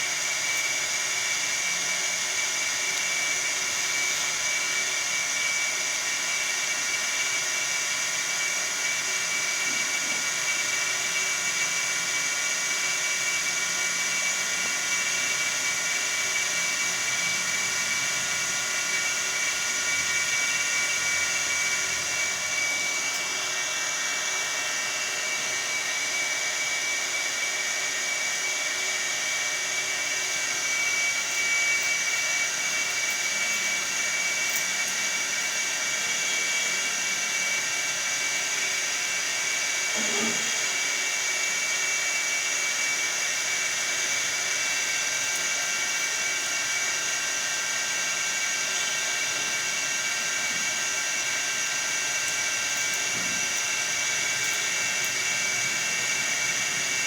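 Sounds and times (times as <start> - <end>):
small motor whining: 0.0 - 57.0.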